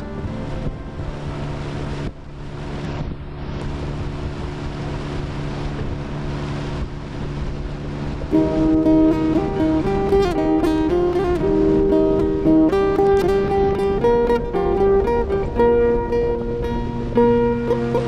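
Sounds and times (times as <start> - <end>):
boat motor running: 0.0 - 18.0
water noise: 0.0 - 18.0
wind buffeting microphone: 0.0 - 18.0.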